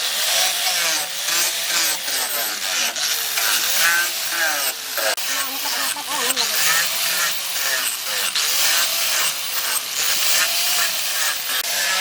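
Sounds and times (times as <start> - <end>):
power tool grinding: 0.0 - 12.0.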